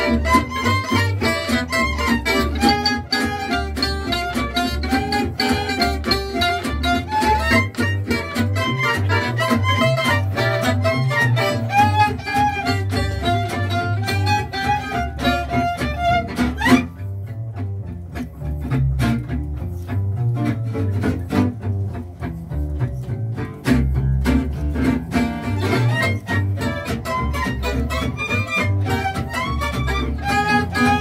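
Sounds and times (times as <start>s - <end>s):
double bass: 0.0s - 31.0s
strummed rhythm guitars: 0.0s - 31.0s
violin melody: 0.0s - 31.0s.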